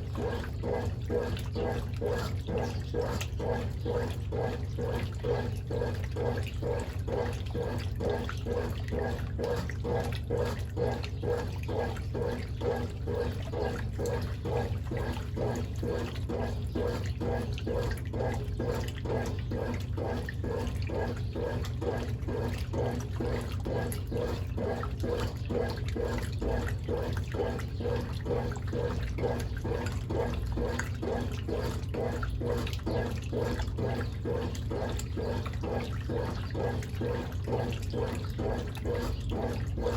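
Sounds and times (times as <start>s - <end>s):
low motor hum: 0.0s - 39.9s
washing machine sloshing water: 0.0s - 39.9s.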